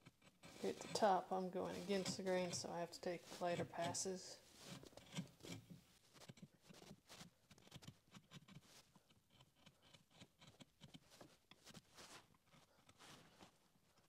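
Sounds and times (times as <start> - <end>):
chisel scraping wood: 0.0 - 13.6.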